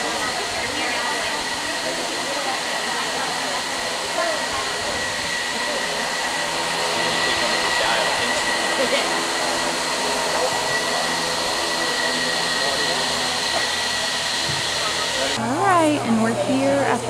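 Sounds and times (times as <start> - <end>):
faint voices: 0.0 - 17.0
fan-like whirring: 0.0 - 17.0.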